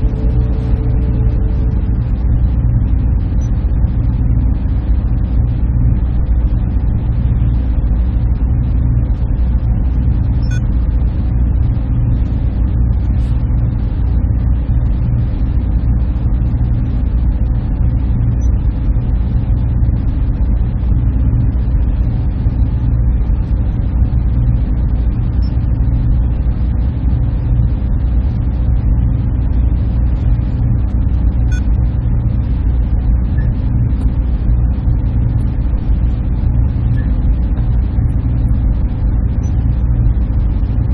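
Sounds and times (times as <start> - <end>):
server machinery humming: 0.0 - 40.9.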